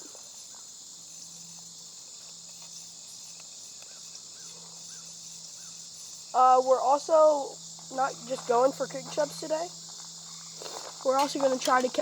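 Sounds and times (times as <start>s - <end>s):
crickets and insects chirring: 0.0s - 12.0s.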